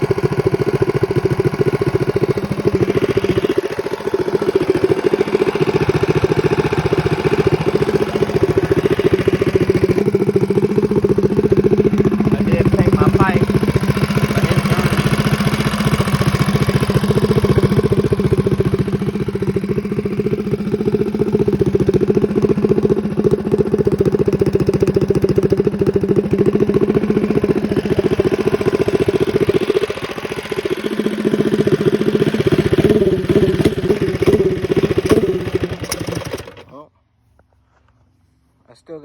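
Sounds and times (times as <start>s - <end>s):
minibike engine running: 0.0s - 36.8s.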